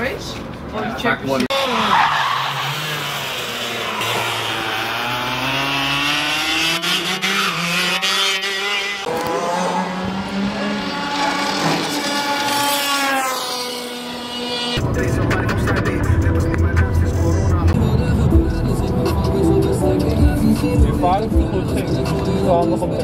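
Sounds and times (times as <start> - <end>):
kart engine accelerating: 1.5 - 20.0.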